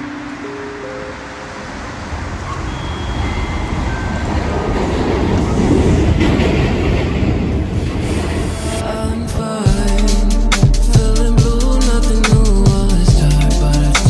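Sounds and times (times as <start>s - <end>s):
subway train rumbling on rails: 0.0s - 14.0s.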